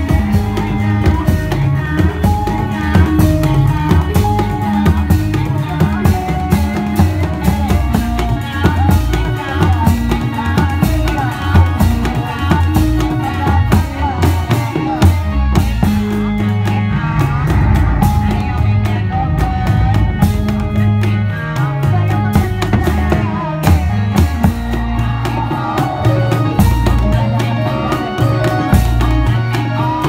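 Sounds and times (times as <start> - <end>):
driving drum beat: 0.0 - 30.0
loud band music: 0.0 - 30.0.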